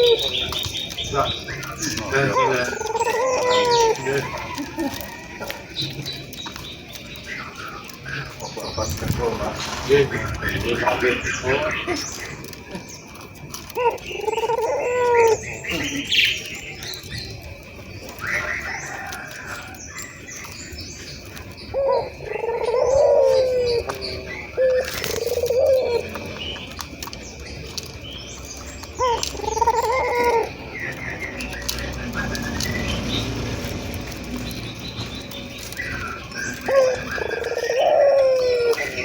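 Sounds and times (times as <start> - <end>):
doves cooing: 0.0 - 39.0
small birds chirping: 0.0 - 39.0.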